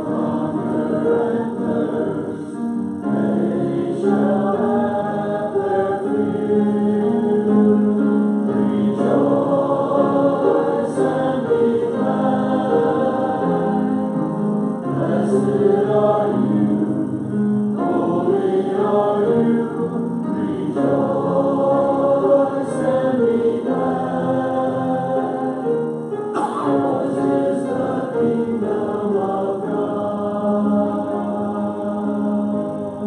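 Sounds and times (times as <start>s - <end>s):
congregation singing a hymn: 0.0s - 33.0s.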